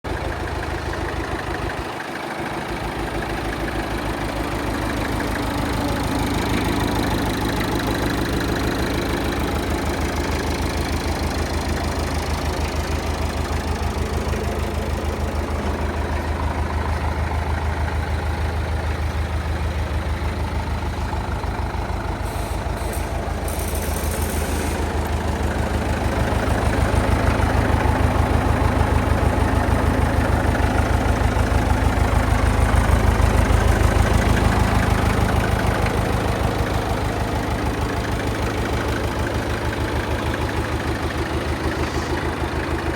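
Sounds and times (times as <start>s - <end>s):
tractor engine idling: 0.0s - 42.9s.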